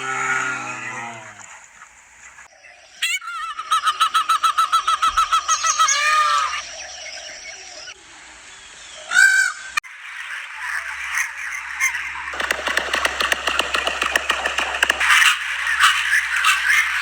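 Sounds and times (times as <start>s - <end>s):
fowl calling: 0.0s - 8.0s, 9.0s - 17.0s.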